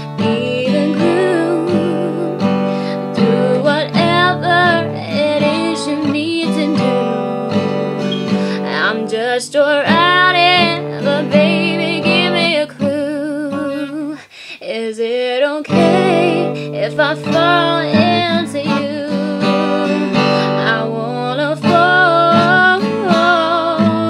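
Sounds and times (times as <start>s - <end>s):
strummed acoustic guitar: 0.0s - 14.2s, 15.7s - 24.0s
woman singing with vibrato: 0.0s - 24.0s.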